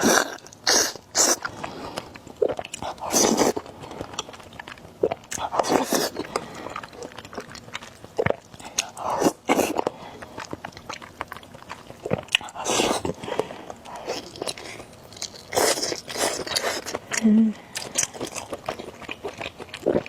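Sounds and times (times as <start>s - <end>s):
chewing and biting noodles: 0.0s - 20.0s.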